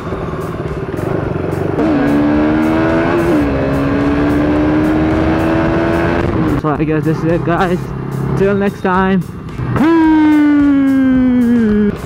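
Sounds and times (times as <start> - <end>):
motorcycle engine running: 0.0 - 12.0
wind and road rush: 0.0 - 12.0.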